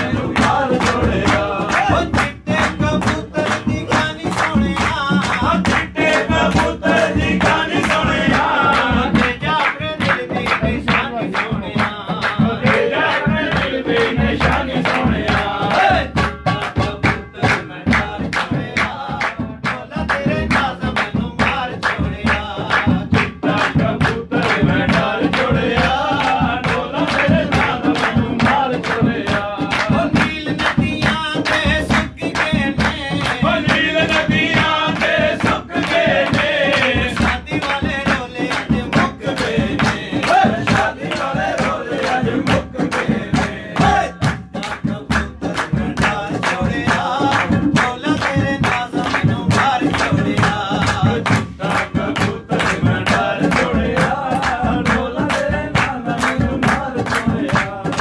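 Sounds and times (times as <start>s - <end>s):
hand percussion beat: 0.0s - 58.0s
man singing folk song: 0.0s - 58.0s.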